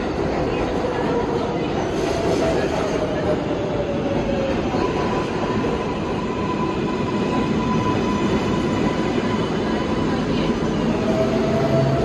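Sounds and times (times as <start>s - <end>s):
subway train rumbling on rails: 0.0s - 12.0s.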